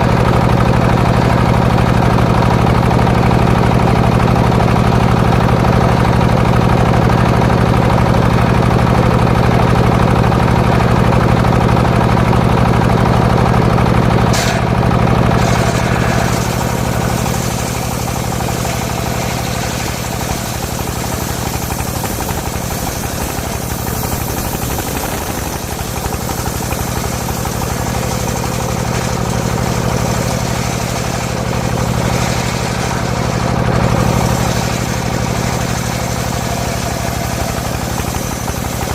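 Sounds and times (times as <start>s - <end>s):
saw engine running: 0.0s - 38.9s.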